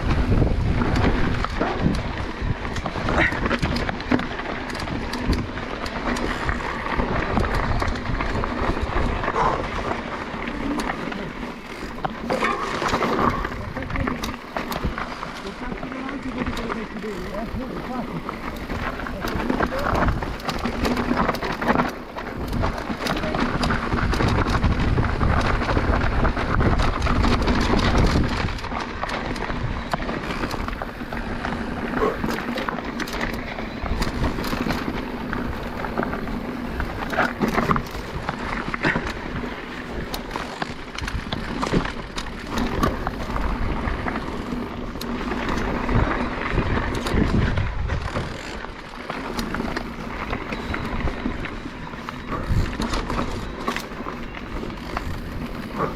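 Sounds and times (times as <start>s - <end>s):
bike knocking and rattling: 0.0s - 55.9s
tyres on loose stones: 0.0s - 55.9s
wind buffeting microphone: 0.0s - 55.9s.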